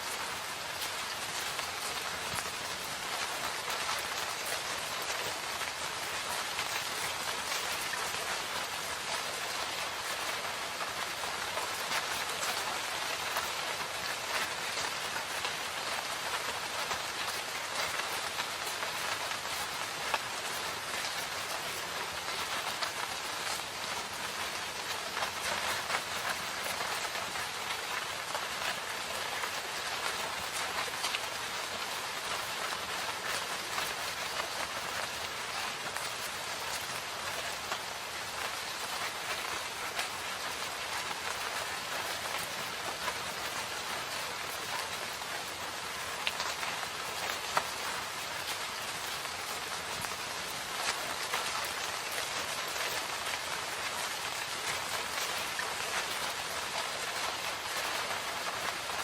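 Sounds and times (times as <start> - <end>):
steady rain in forest: 0.0 - 59.0.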